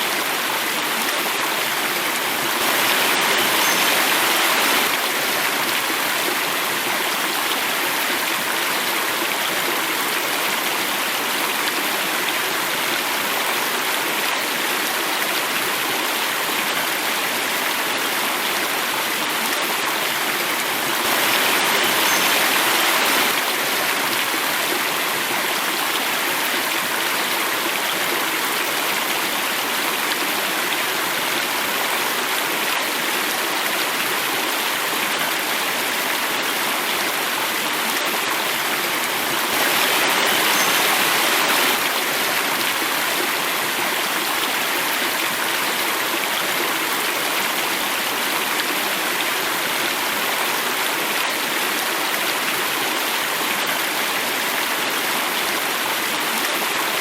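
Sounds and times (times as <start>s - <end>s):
water rushing in a stream: 0.0s - 57.0s.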